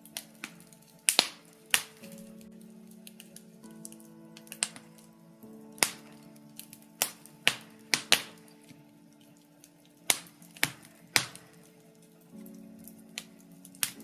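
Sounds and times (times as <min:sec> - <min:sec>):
logs crackling in a fireplace: 0:00.0 - 0:14.0
soft background music: 0:00.0 - 0:14.0.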